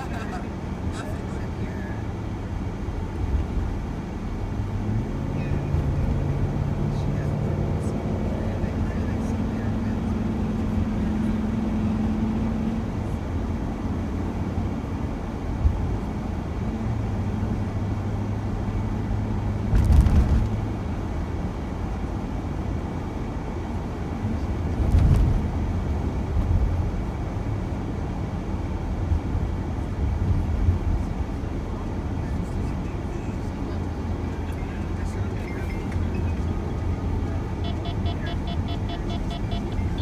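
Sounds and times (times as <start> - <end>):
van road and engine drone: 0.0 - 40.0.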